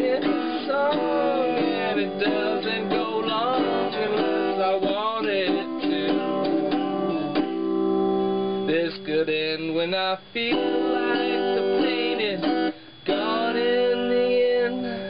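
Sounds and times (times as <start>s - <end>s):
man singing: 0.0s - 7.3s, 8.7s - 15.0s
acoustic guitar strumming: 0.0s - 15.0s.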